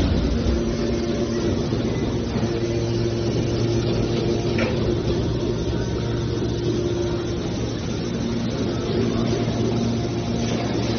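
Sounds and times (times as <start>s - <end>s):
machinery humming: 0.0s - 10.9s.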